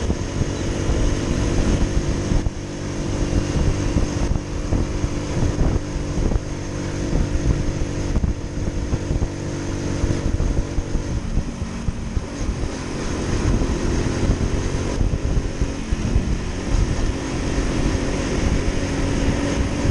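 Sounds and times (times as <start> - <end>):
low rumbling noise: 0.0 - 19.9
motorcycle engine running: 0.0 - 19.9.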